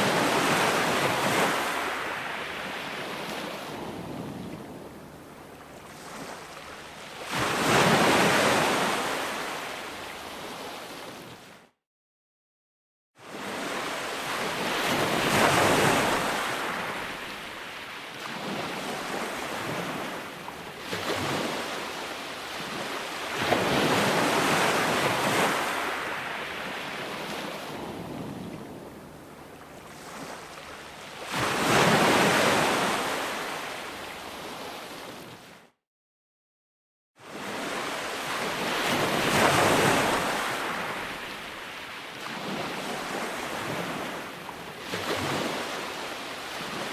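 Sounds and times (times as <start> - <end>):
ocean waves breaking: 0.0 - 11.3, 13.2 - 35.4, 37.2 - 46.9.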